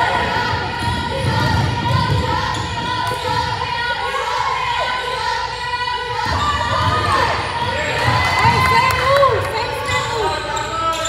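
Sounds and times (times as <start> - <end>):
sneakers squeaking: 0.0 - 4.2, 4.9 - 11.0.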